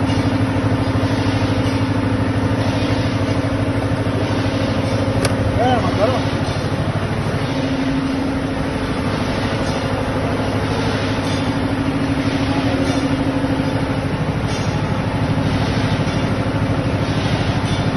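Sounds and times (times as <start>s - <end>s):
pugmill machine drone: 0.0s - 17.9s.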